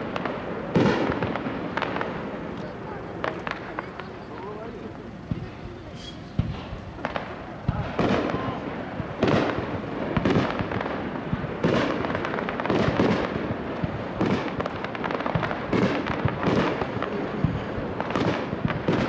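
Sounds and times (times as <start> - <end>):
rumble of fireworks display: 0.0 - 19.0.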